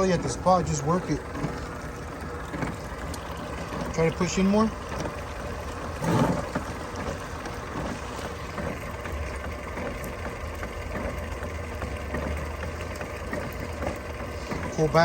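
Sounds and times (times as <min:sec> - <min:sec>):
drain-cleaning cable machine running: 0:00.0 - 0:15.0.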